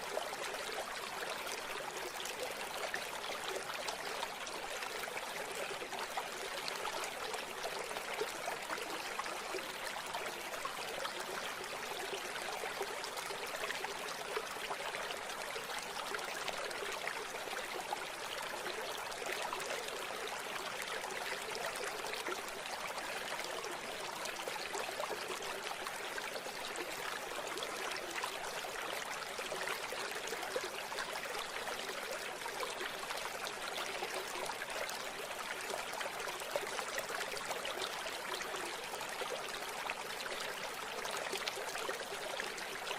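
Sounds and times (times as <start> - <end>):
stream babbling over stones: 0.0 - 42.9.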